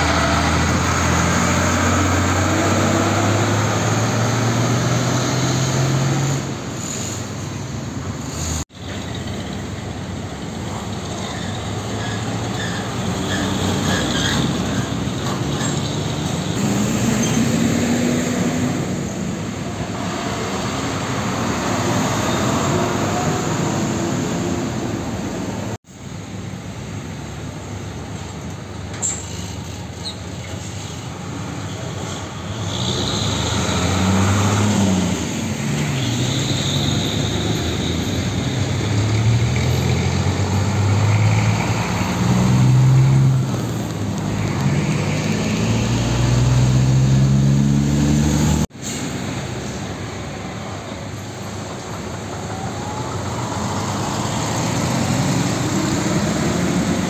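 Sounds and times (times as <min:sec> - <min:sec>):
truck engine revving: 0:00.0 - 0:07.1, 0:08.1 - 0:25.8, 0:32.0 - 0:50.0, 0:51.2 - 0:57.0
diesel trucks driving past: 0:00.0 - 0:57.0
traffic noise: 0:00.0 - 0:57.0.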